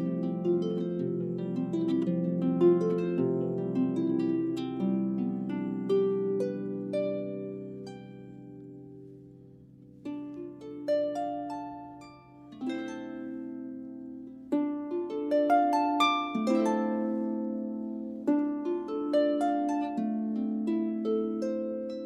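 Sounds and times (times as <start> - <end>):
solo harp playing: 0.0 - 22.0.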